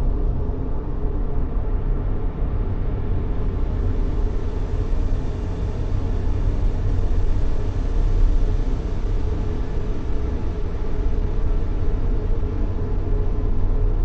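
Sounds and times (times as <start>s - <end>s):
deep white noise: 0.0s - 14.0s.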